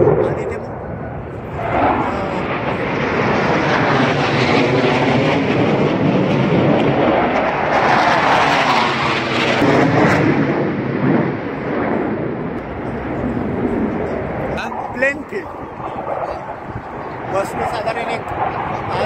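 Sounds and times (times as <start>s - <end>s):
airplane flying past: 0.0s - 19.0s.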